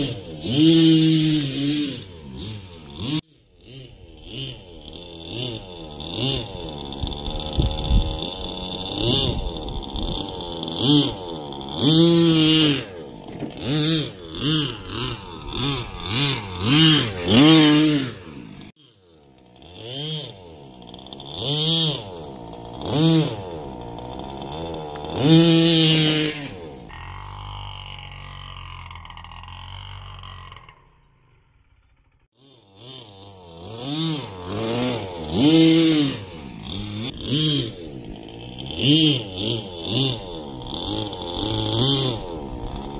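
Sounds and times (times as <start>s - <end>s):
nitro engine revving: 0.0s - 42.9s.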